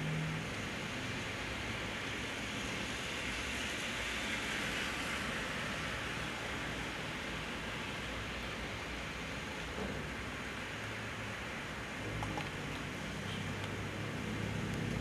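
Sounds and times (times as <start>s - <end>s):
heavy rain on a road: 0.0s - 15.0s.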